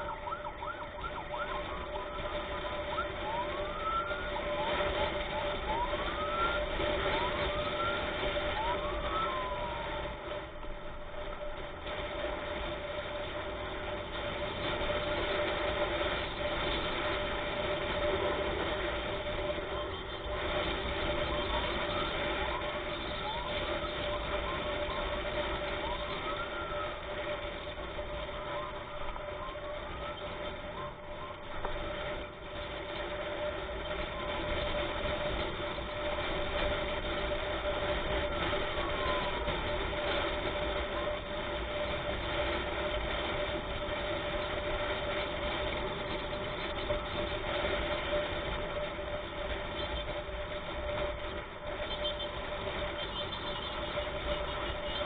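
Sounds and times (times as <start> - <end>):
faint emergency siren: 0.0 - 55.0
vehicle engine and road noise: 0.0 - 55.0.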